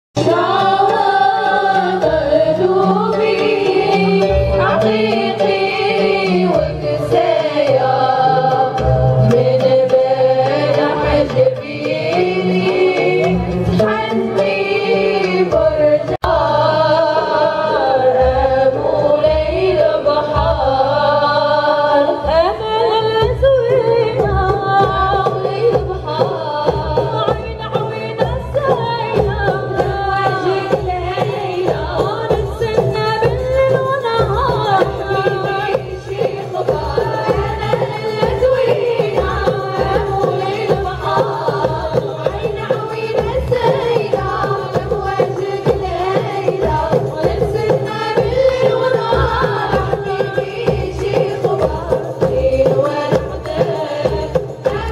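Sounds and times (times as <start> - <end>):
frame drums beating: 0.2 - 54.9
women singing together: 0.2 - 54.9.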